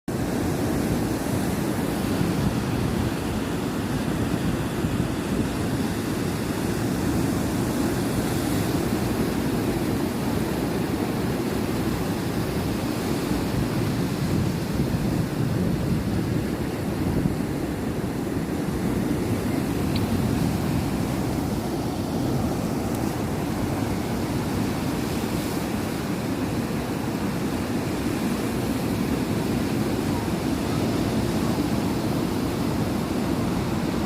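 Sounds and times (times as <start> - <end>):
sea waves washing on shore: 0.1 - 34.0
wind buffeting microphone: 0.3 - 34.0.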